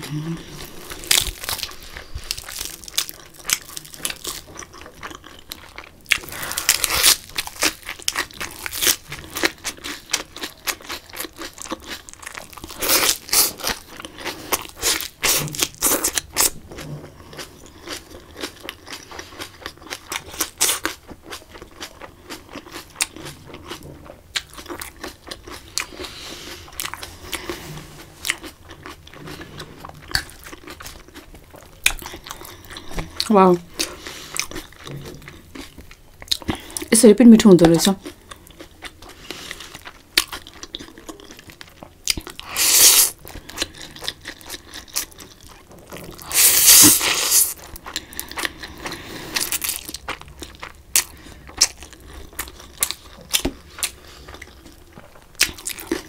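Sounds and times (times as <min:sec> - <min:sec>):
lettuce crunching as chewed: 0:00.0 - 0:36.9, 0:37.7 - 0:56.0.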